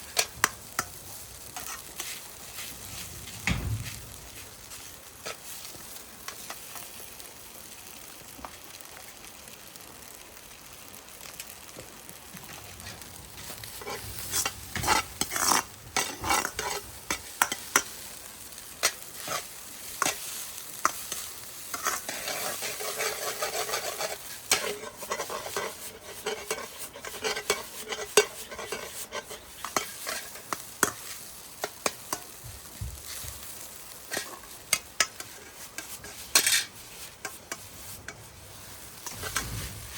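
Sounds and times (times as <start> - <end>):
spatula scraping a pan: 0.0 - 6.9, 12.8 - 39.9
rice sizzling in a frying pan: 0.0 - 39.9.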